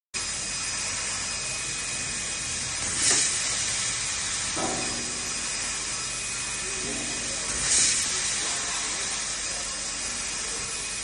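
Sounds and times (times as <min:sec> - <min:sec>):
laser cutter hiss: 0:00.2 - 0:11.0.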